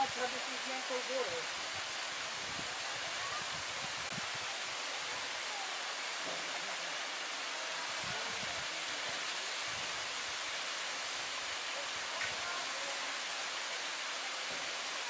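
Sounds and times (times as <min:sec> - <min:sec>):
water rushing down cascades: 0:00.0 - 0:15.0.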